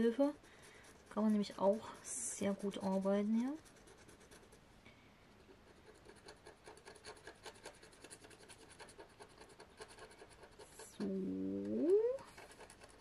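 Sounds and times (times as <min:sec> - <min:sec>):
scratching on scratch card: 0:00.0 - 0:04.6, 0:05.6 - 0:13.0.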